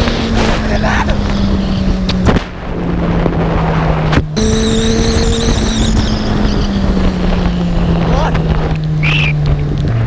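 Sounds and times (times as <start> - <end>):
motorcycle engine running: 0.0 - 10.0
wind rushing over microphone: 0.0 - 10.0.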